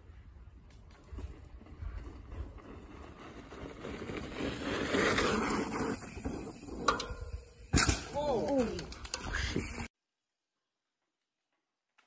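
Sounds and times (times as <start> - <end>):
bike tyres rolling on dirt: 0.0 - 9.9.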